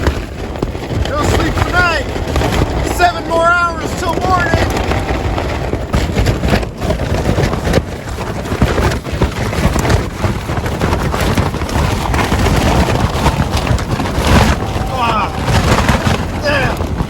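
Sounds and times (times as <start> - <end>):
strong wind rushing: 0.0 - 17.0
tent fabric flapping: 0.0 - 17.0
wind buffeting microphone: 0.0 - 17.0.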